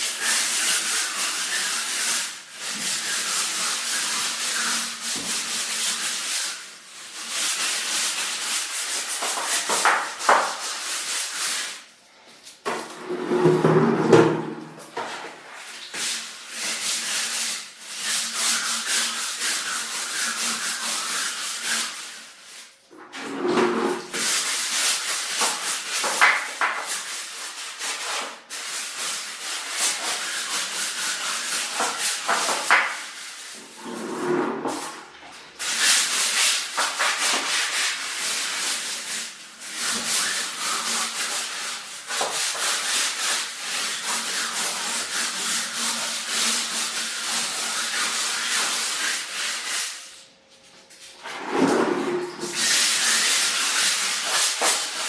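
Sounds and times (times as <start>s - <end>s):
brush scrubbing a surface: 0.0s - 55.0s.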